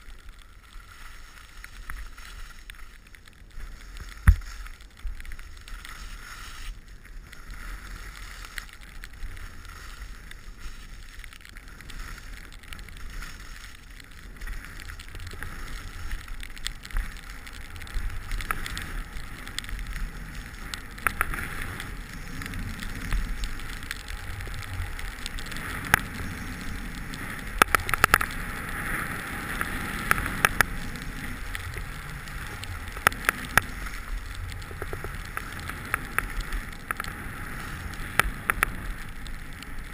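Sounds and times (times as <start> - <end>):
skis hissing over snow: 0.0 - 39.9.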